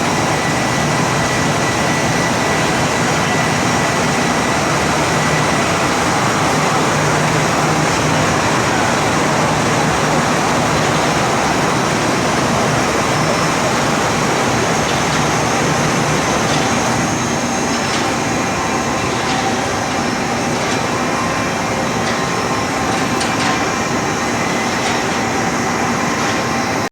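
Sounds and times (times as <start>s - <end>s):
textile washing machine running: 0.0s - 26.9s.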